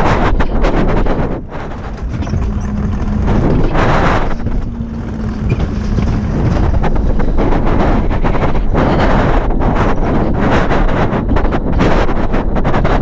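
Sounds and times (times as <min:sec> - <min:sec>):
vehicle rumbling: 0:00.0 - 0:13.0
wind buffeting microphone: 0:00.0 - 0:13.0.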